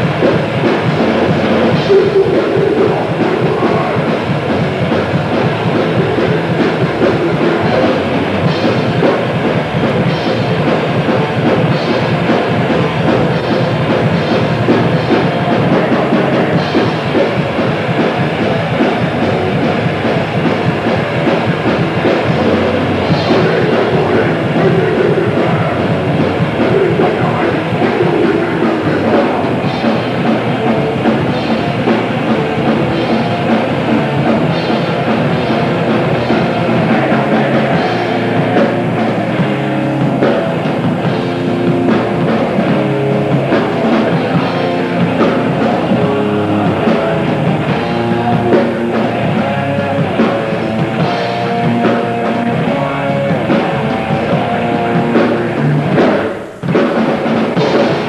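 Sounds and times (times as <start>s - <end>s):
distorted guitars and bass: 0.0s - 58.0s
fast dense drumming: 0.0s - 58.0s.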